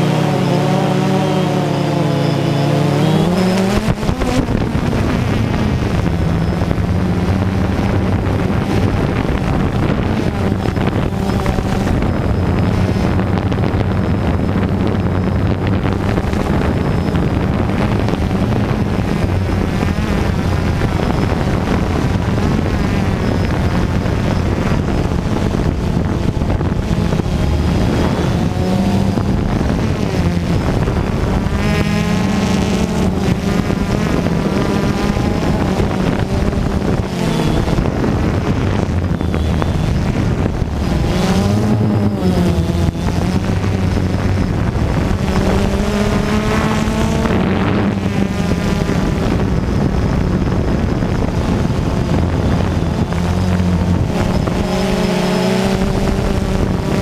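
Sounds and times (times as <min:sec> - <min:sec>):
drone motors buzzing: 0:00.0 - 0:57.0
wind rush: 0:00.0 - 0:57.0.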